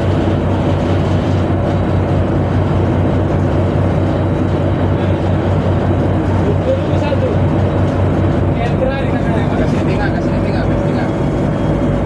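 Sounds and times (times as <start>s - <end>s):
boat engine low drone: 0.0s - 12.0s.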